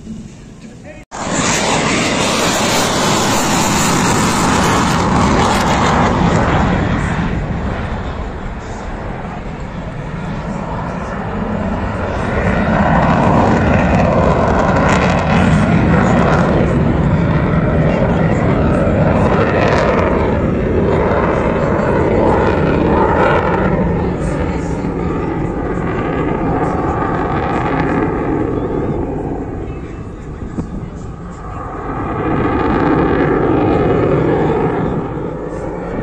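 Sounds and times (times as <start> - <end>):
jet aircraft flying past: 0.0 - 36.0.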